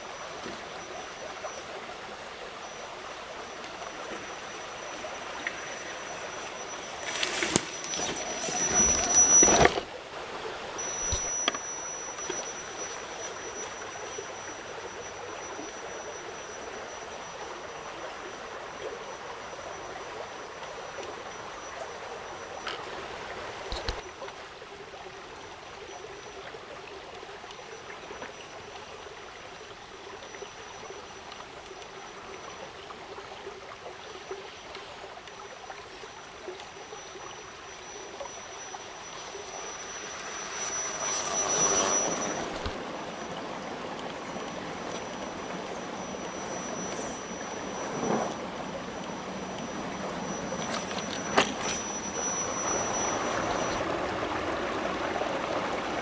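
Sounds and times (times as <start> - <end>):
thin high whine: 0.0 - 24.3, 27.4 - 56.0
stream running: 0.0 - 56.0.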